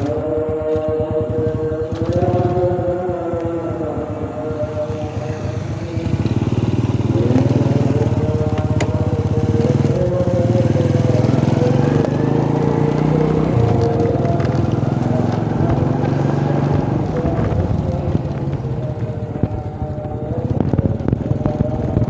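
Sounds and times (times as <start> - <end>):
small motorcycle engine running: 0.0 - 22.0.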